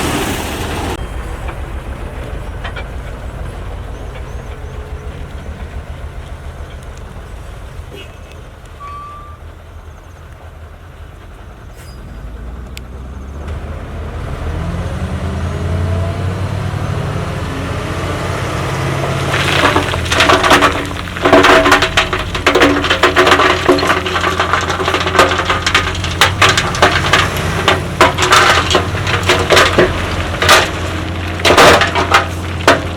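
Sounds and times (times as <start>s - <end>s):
gravel crunching and clattering: 0.0s - 13.6s, 18.3s - 32.9s
heavy machine engine rumbling: 0.0s - 32.9s.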